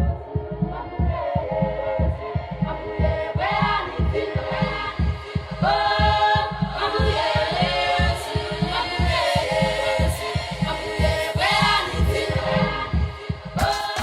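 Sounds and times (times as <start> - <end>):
choir singing: 0.0 - 14.0
low drum beat: 0.0 - 14.0.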